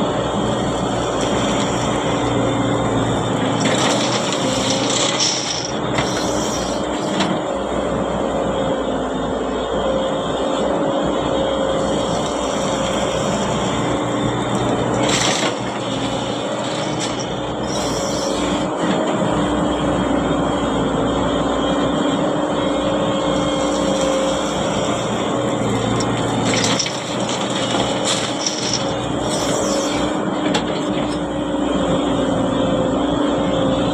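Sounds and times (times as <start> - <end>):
heavy diesel machinery droning: 0.0 - 33.9.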